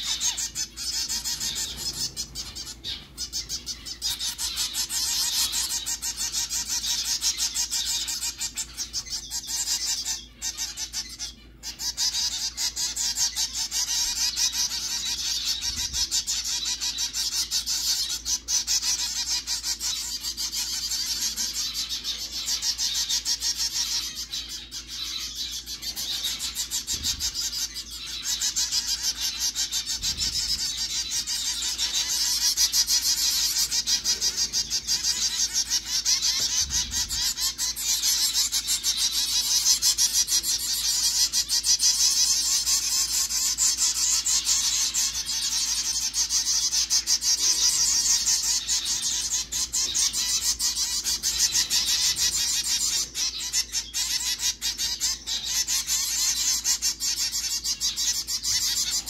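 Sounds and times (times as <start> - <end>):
baby birds begging calls: 0.0 - 59.0.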